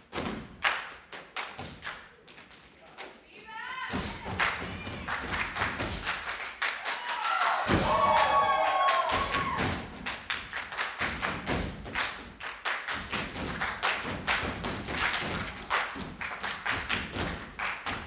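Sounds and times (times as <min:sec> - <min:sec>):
hand claps: 0:00.6 - 0:03.2, 0:04.1 - 0:18.0.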